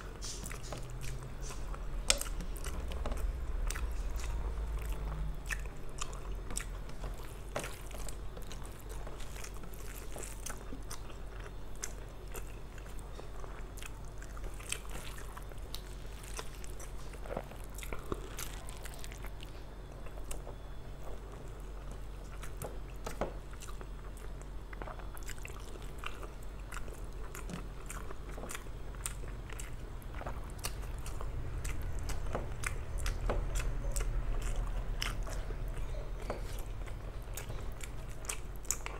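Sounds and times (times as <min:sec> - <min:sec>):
chewing and wet mouth sounds: 0:00.0 - 0:38.9
low steady hum: 0:00.0 - 0:38.9.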